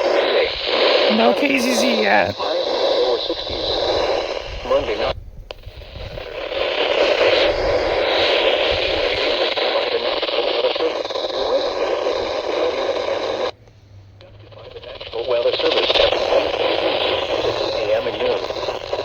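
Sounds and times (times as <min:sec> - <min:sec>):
radio static hiss: 0:00.0 - 0:13.5, 0:14.2 - 0:19.0.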